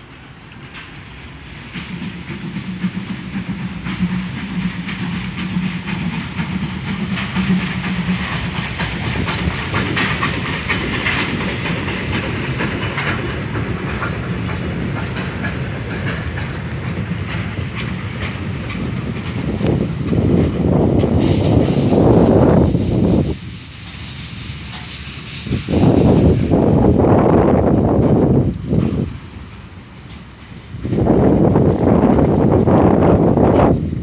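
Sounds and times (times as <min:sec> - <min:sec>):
steam locomotive hissing and chuffing: 0:00.0 - 0:34.0
train wheels clattering on rails: 0:00.0 - 0:34.0.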